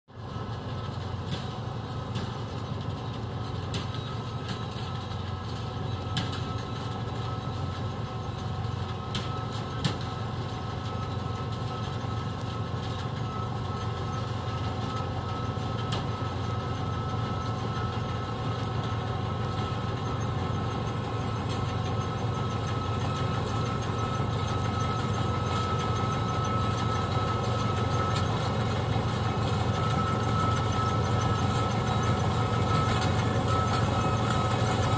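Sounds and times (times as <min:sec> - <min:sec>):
combine harvester engine drone: 0:00.1 - 0:34.9.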